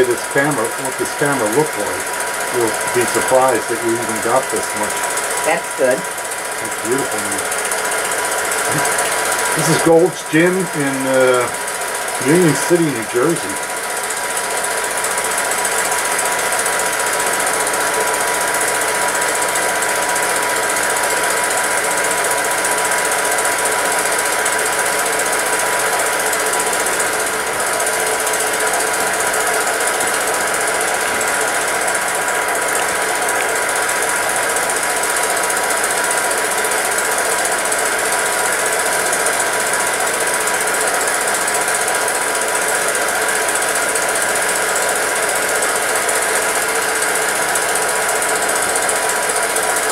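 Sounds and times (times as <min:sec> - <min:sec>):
film projector clattering: 0:00.0 - 0:49.9.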